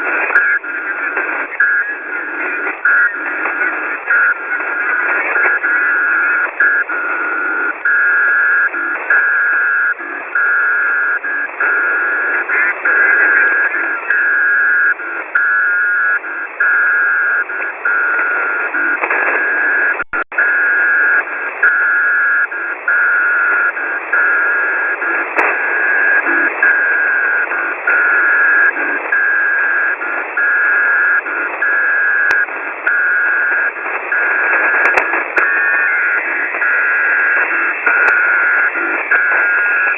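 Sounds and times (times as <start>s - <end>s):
morse code tone pulses: 0.0s - 39.9s
radio static hiss: 0.0s - 39.9s.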